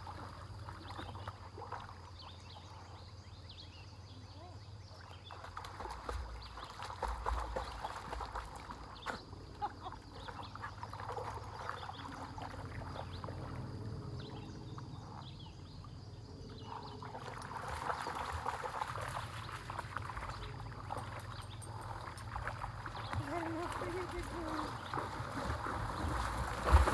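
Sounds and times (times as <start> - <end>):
ponies splashing through water: 0.0 - 2.9, 4.8 - 15.8, 16.7 - 26.9.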